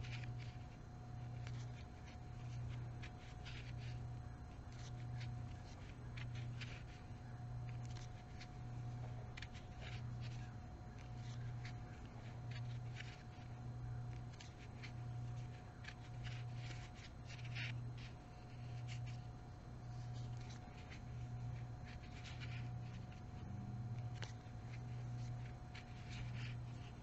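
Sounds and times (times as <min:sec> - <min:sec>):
pulsing low hum: 0:00.0 - 0:27.0.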